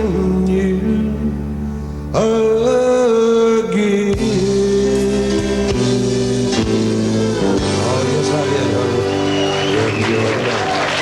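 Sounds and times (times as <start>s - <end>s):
man singing: 0.0s - 10.5s
country band playing: 0.0s - 11.0s.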